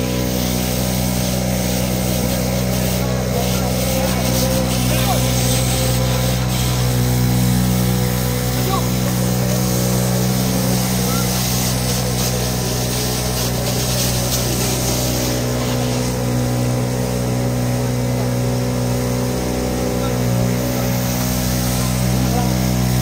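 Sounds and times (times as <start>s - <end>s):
fire pump engine running: 0.0s - 23.0s
water jet hissing from nozzle: 0.0s - 23.0s.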